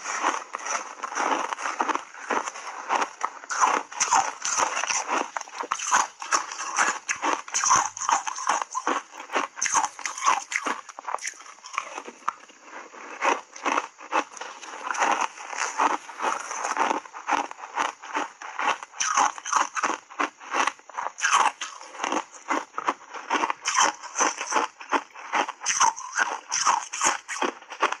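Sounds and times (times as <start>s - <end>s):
ice crunching between teeth: 0.0s - 28.0s.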